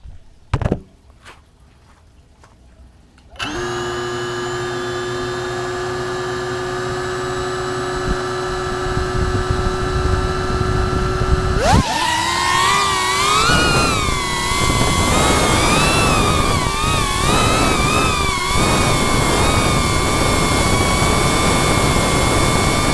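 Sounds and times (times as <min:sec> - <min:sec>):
quadcopter motors whining: 0:03.4 - 0:22.9.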